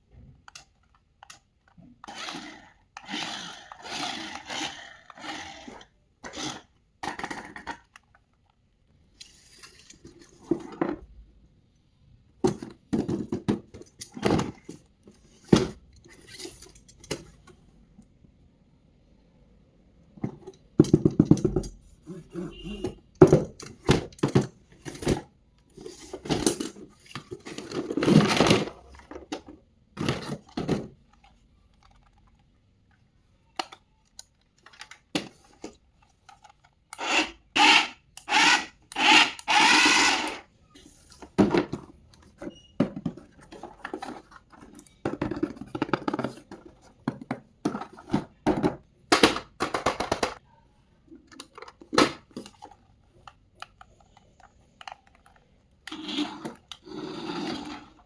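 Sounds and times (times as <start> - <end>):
hands handling plastic toy: 0.1 - 11.2, 12.4 - 17.6, 20.1 - 50.5, 51.1 - 56.9.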